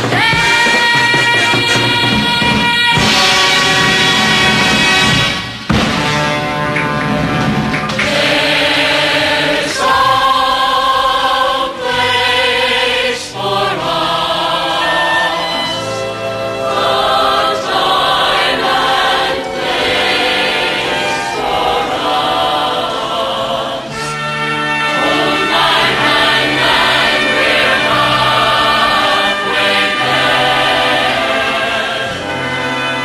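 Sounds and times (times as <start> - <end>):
choir singing: 0.0 - 5.4, 7.9 - 33.0
instrumental backing music: 0.0 - 33.0.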